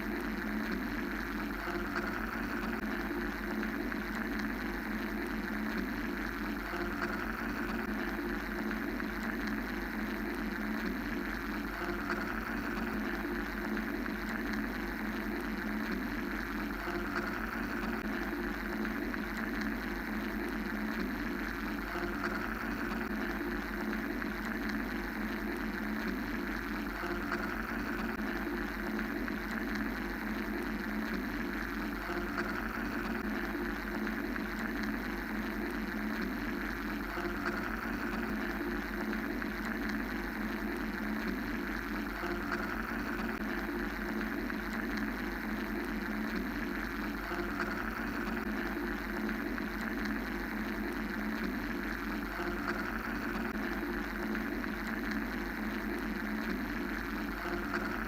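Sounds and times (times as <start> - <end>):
mechanical white noise drone: 0.0 - 58.0.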